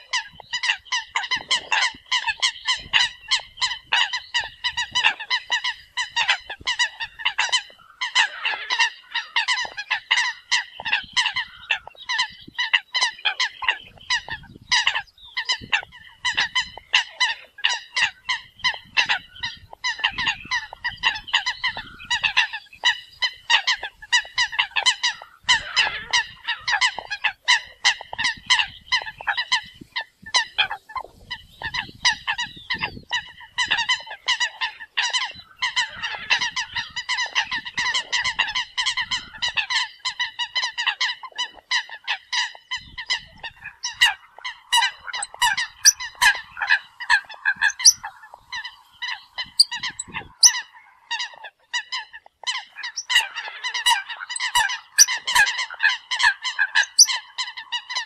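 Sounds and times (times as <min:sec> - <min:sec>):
coots calling: 0:00.0 - 0:58.0.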